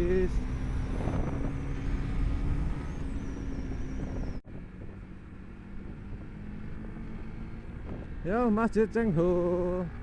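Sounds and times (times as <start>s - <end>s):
motorcycle engine cruising: 0.0s - 10.0s
road and wind rumble: 0.0s - 10.0s.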